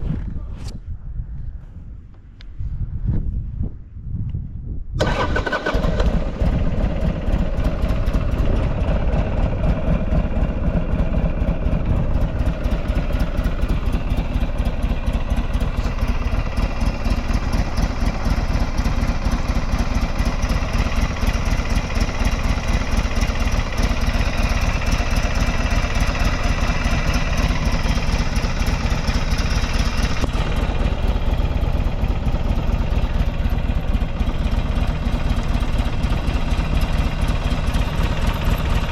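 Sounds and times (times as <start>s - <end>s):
motorcycle engine starting and idling: 5.0s - 38.9s.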